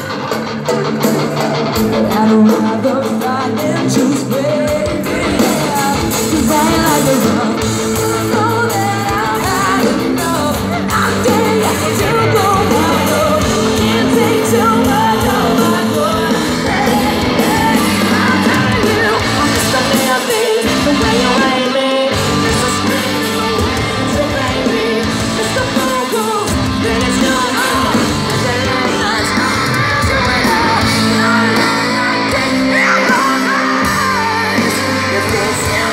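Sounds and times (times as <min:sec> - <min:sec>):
bass guitar: 0:00.0 - 0:35.9
drums: 0:00.0 - 0:35.9
lead singer: 0:00.0 - 0:35.9
live rock band: 0:00.0 - 0:35.9.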